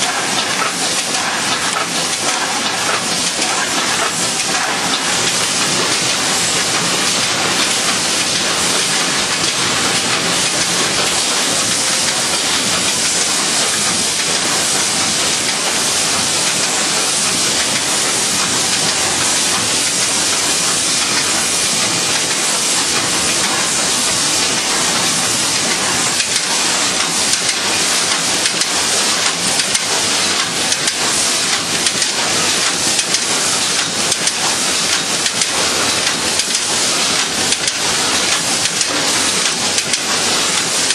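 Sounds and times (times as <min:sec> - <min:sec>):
shrink-wrap machine hissing: 0:00.0 - 0:40.9.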